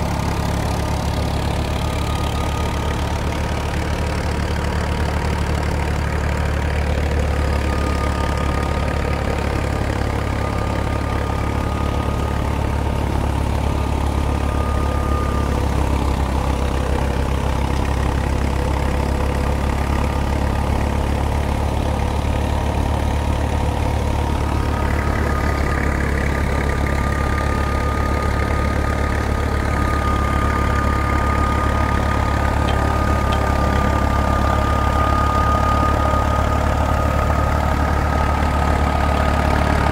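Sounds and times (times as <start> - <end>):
high machinery whine: 0.0 - 39.9
tractor diesel engine running: 0.0 - 39.9.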